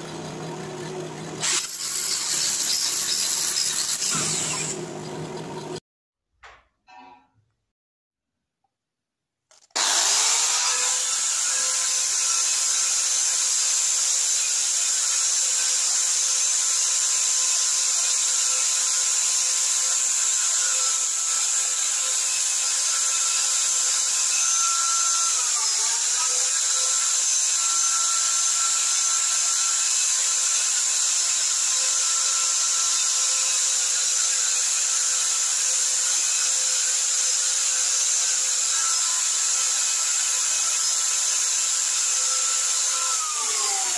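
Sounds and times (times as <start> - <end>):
bench grinder motor hum: 0.0 - 5.8, 9.7 - 43.9.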